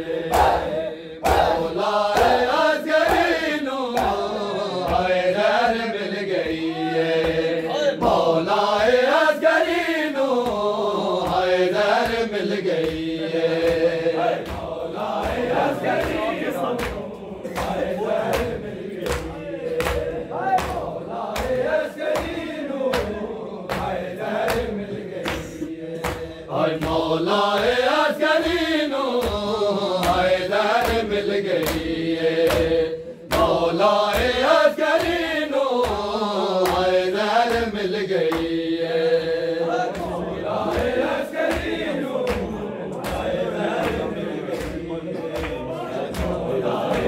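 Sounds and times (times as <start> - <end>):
men chanting a lament: 0.0 - 47.0
rhythmic chest-beating strikes: 0.0 - 47.0.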